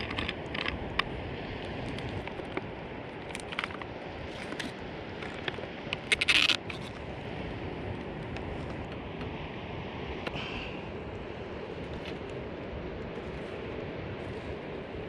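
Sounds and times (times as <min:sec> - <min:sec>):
campfire crackling: 0:00.0 - 0:09.4, 0:10.2 - 0:15.0
steady rushing background: 0:00.0 - 0:15.0.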